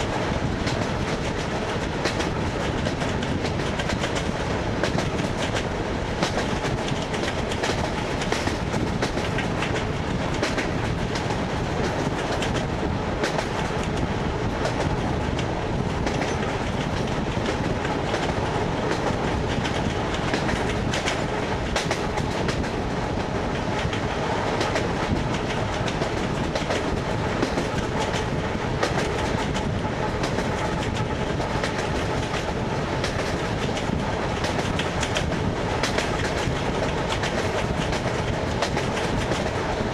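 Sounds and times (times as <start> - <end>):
train running noise: 0.0 - 39.9
wheels clacking on rail joints: 0.0 - 39.9.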